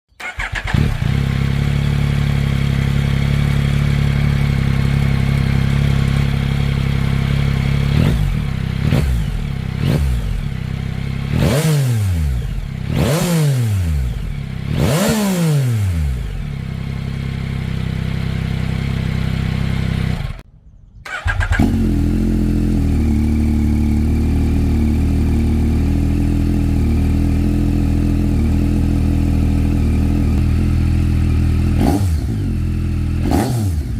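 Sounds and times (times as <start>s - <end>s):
motorcycle engine idling: 0.2s - 11.4s, 12.1s - 13.2s, 13.8s - 15.1s, 15.9s - 20.4s, 21.0s - 33.9s
motorcycle throttle blips: 0.2s - 33.9s.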